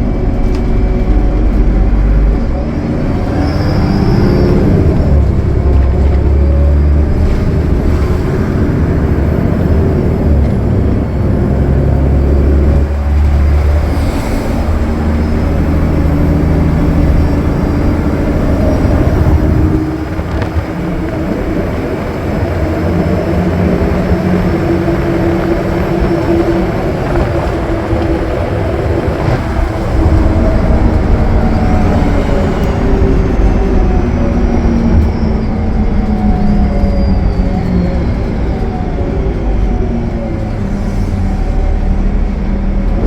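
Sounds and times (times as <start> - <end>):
bus diesel engine droning: 0.0 - 43.0.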